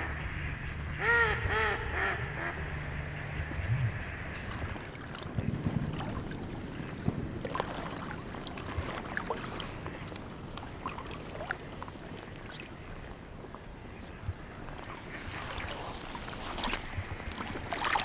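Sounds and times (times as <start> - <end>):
wading through shallow water: 0.0 - 18.0.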